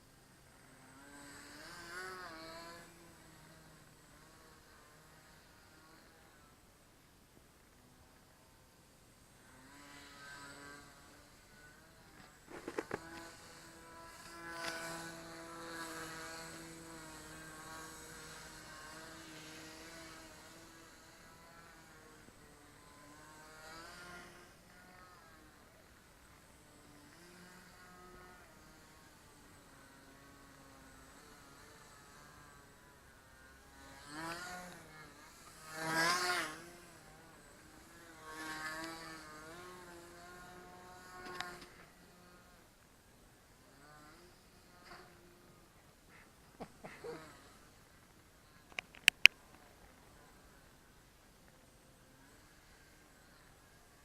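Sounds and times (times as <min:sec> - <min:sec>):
model airplane motor buzzing: 0:00.0 - 0:54.0.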